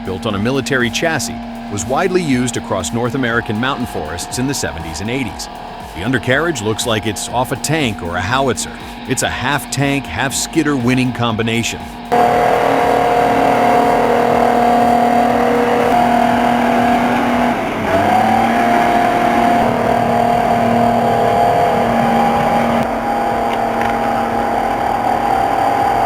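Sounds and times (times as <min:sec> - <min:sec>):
heavy machine droning with whine: 0:00.0 - 0:26.0.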